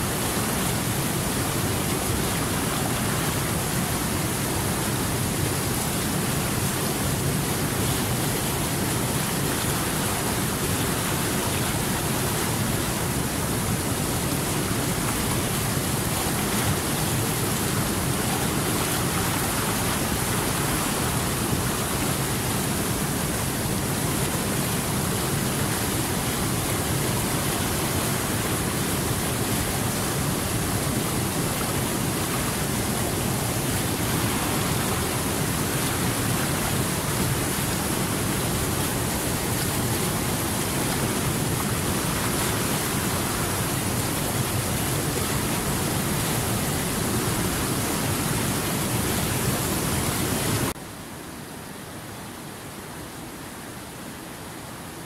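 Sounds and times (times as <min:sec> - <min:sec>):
river rapids rushing over boulders: 0:00.0 - 0:55.0.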